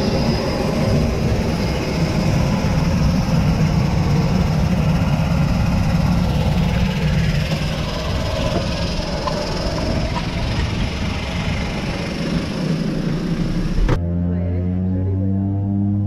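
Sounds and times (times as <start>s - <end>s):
aircraft engine noise: 0.0s - 14.0s
low hum: 0.0s - 16.0s.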